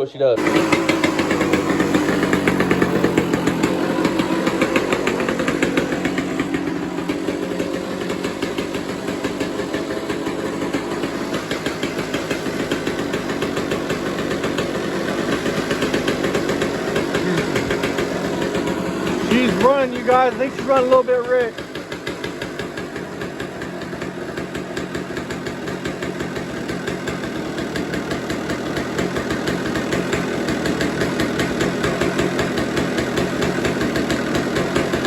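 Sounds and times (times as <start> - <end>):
two-stroke engine running: 0.0 - 35.0.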